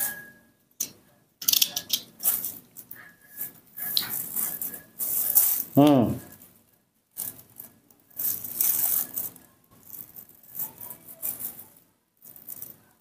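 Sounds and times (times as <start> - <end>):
food preparation handling noises: 1.4 - 13.0.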